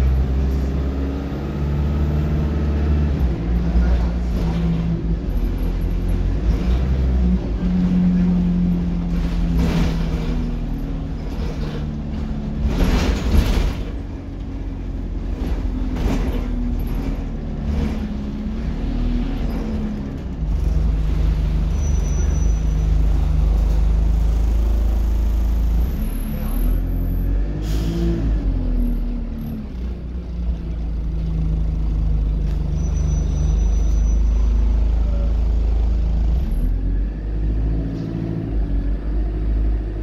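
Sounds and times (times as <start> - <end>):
bus engine drone: 0.0 - 40.0.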